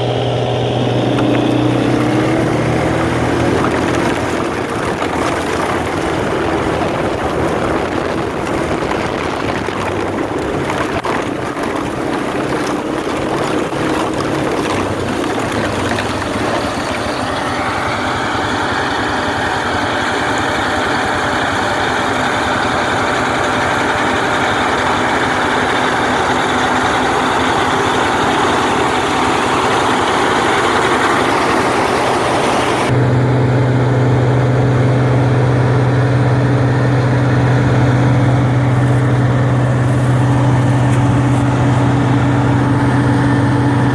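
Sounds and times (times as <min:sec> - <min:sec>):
heavy diesel machinery running: 0:00.0 - 0:43.9
low engine hum: 0:00.0 - 0:43.9.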